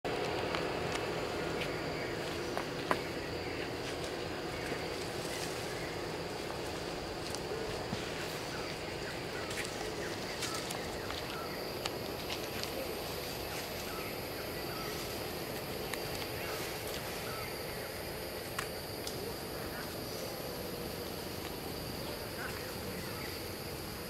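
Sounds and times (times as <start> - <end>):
steady high hum: 0.0 - 24.0.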